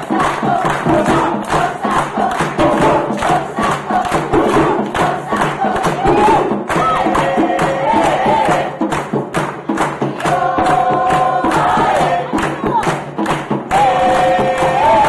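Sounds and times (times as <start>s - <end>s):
boys' choir singing: 0.0s - 15.0s
hand percussion beating: 0.0s - 15.0s.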